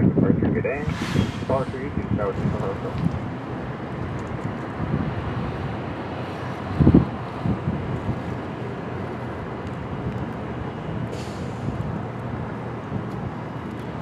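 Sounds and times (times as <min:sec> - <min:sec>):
outdoor rumble: 0:00.0 - 0:14.0
wind buffeting microphone: 0:00.0 - 0:14.0.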